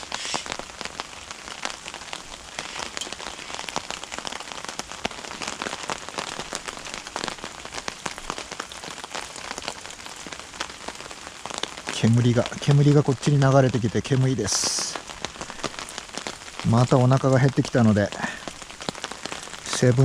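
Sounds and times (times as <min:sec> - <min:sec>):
rain drops ticking on a surface: 0:00.0 - 0:20.0.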